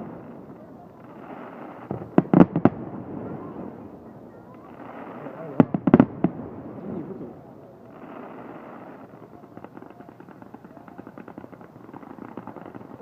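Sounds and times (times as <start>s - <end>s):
fireworks crackling: 0.0s - 13.0s
steady hiss: 0.0s - 13.0s.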